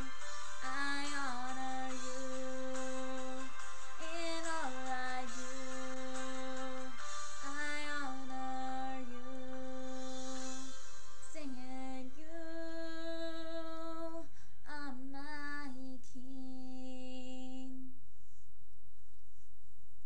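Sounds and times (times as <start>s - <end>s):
girl singing unaccompanied: 0.0s - 10.7s, 11.3s - 18.0s.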